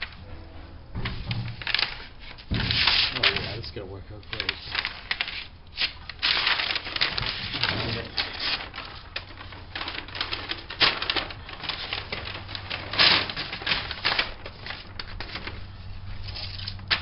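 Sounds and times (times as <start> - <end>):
plastic bag rustling: 1.1 - 17.0
tape crackling: 1.1 - 17.0.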